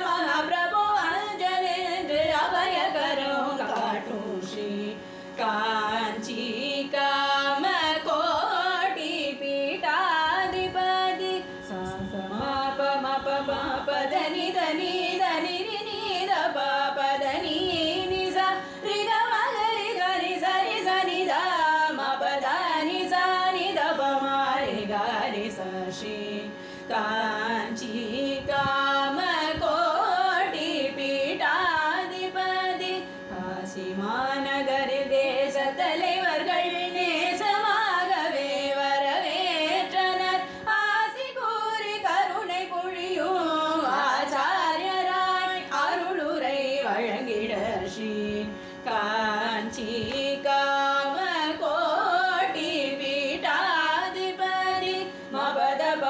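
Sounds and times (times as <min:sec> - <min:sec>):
person singing devotional song: 0:00.0 - 0:56.0.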